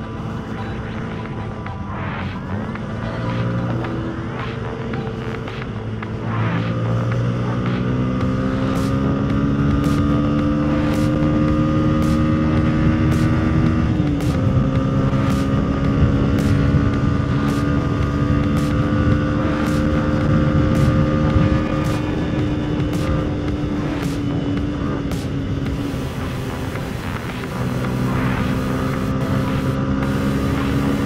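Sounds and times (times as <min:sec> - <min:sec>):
motorcycle engine pulling steadily: 0:00.0 - 0:31.0
wind and road noise: 0:00.0 - 0:31.0.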